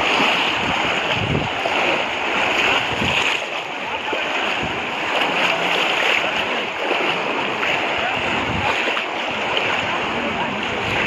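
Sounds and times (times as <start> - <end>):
splashing pond water: 0.0 - 11.0.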